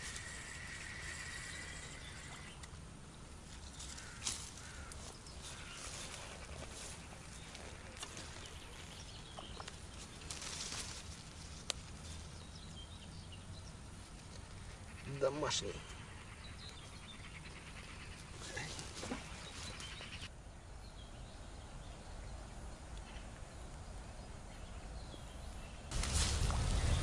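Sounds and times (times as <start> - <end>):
lakeside ambience: 0.0 - 27.0.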